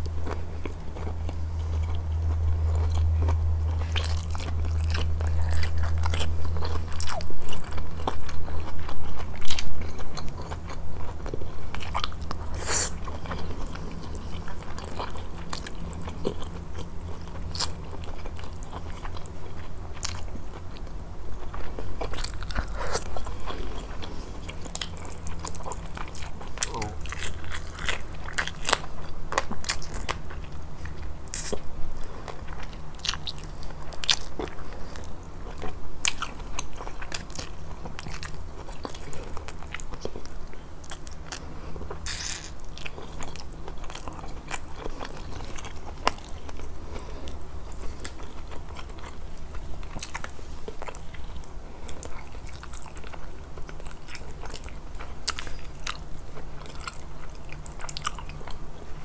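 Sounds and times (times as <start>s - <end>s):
chewing with sharp crunches: 0.0s - 59.0s.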